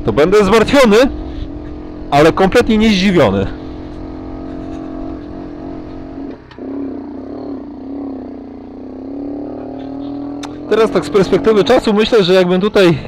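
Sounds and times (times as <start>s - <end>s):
moped engine under throttle: 0.0s - 12.3s.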